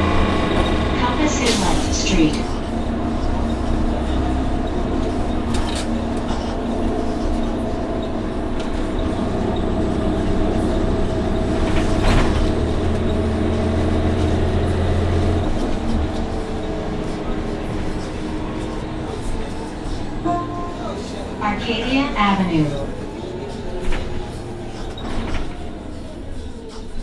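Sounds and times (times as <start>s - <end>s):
bus cabin noise: 0.0s - 27.0s
bus engine running: 0.0s - 27.0s.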